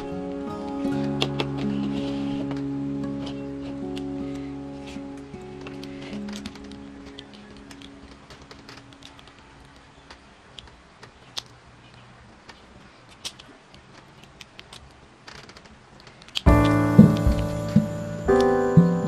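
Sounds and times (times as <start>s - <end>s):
low hiss: 0.0s - 19.0s.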